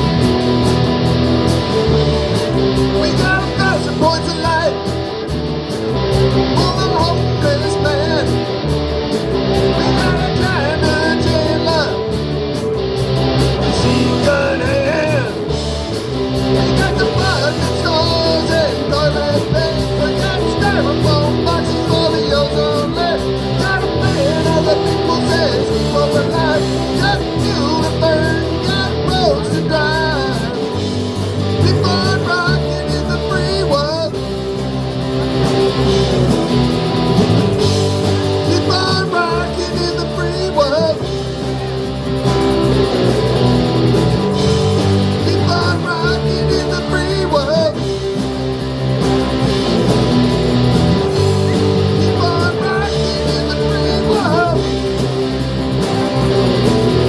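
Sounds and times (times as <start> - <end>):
rock song with guitars and singing: 0.0 - 57.0.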